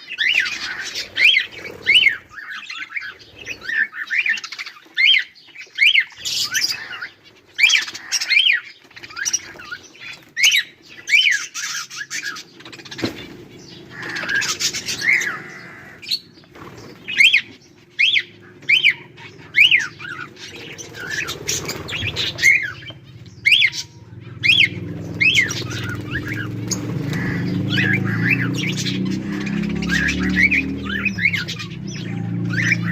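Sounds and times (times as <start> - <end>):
budgerigars chirping and squawking: 0.0 - 32.9.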